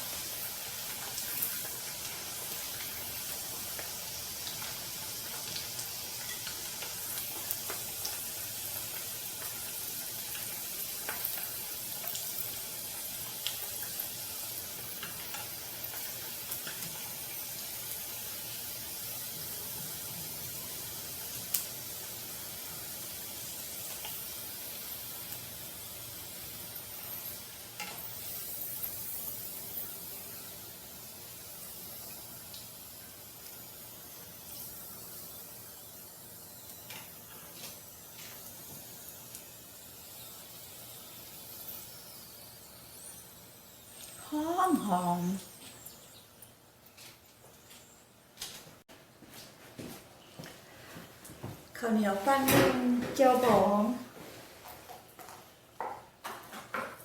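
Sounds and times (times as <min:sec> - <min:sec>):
meat sizzling in hot oil: 0:00.0 - 0:48.0.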